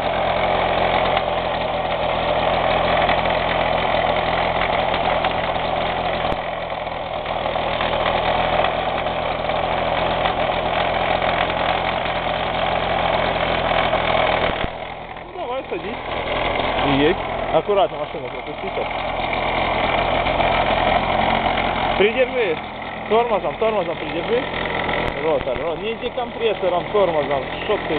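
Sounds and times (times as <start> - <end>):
moped engine running: 0.0 - 27.9.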